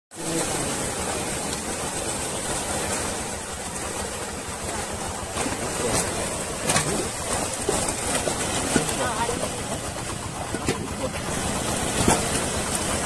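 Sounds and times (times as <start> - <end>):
fish thrashing and splashing: 0.1 - 13.0.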